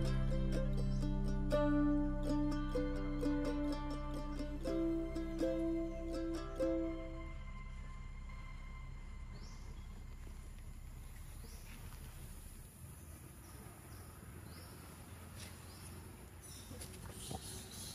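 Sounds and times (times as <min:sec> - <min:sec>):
low steady rumble: 0:00.0 - 0:15.2.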